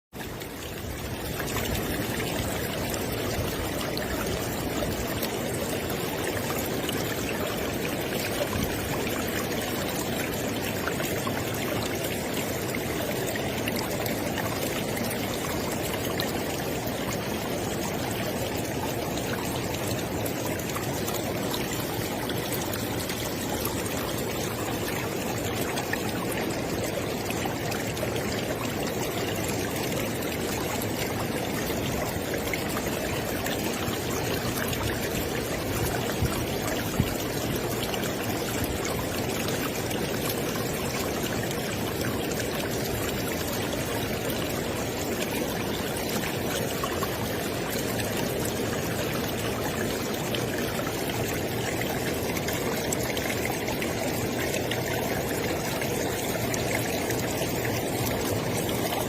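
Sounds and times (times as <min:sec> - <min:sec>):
river flowing over rocks: 0:00.2 - 0:59.0.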